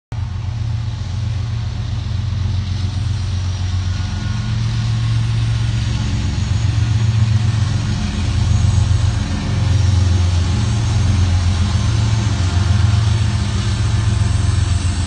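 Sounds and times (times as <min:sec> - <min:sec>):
locomotive engine droning: 0:00.2 - 0:15.0.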